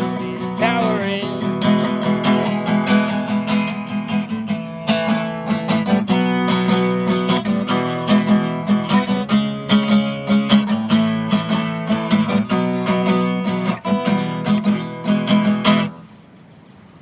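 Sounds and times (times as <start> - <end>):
acoustic guitar strumming: 0.0 - 16.2
faint background hiss: 0.0 - 17.0.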